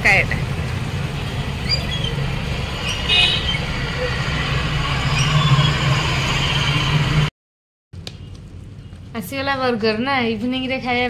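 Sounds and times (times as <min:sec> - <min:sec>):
rumble of passing vehicles: 0:00.0 - 0:07.3, 0:08.0 - 0:11.0.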